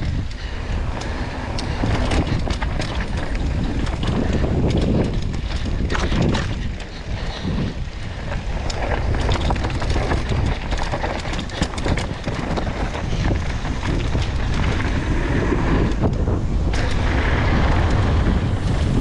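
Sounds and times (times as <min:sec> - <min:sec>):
bike rattles and clicks: 0:00.0 - 0:19.0
bike tyres on dirt: 0:00.0 - 0:19.0
wind rumble on microphone: 0:00.0 - 0:19.0.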